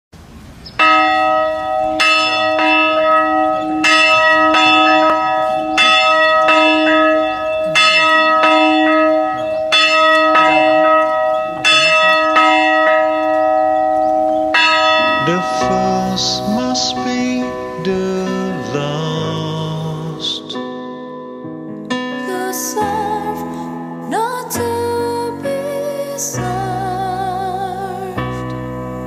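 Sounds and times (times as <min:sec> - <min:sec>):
church bell tolling: 0:00.8 - 0:24.7.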